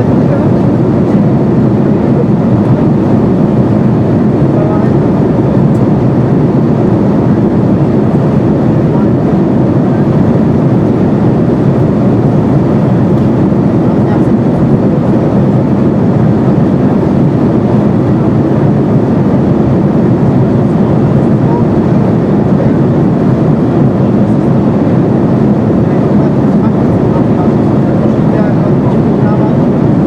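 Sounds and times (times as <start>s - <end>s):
airliner cabin noise: 0.0s - 30.0s.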